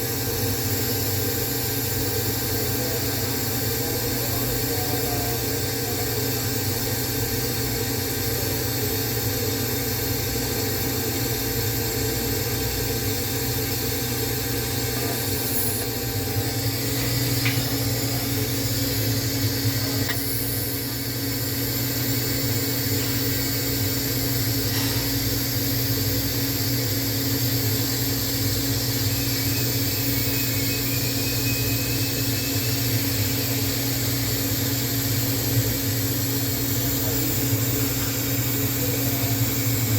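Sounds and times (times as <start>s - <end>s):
low hum of welding setup: 0.0s - 39.9s
welding hiss: 0.4s - 39.9s.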